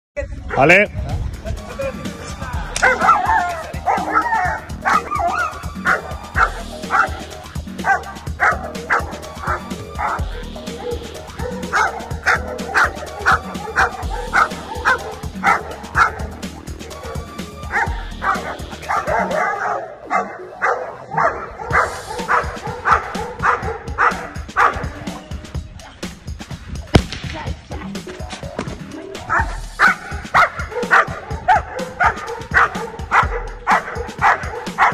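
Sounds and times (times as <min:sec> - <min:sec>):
music with steady beat: 0:01.0 - 0:19.5, 0:21.5 - 0:34.9
puppy barking: 0:02.8 - 0:25.2, 0:28.2 - 0:34.9.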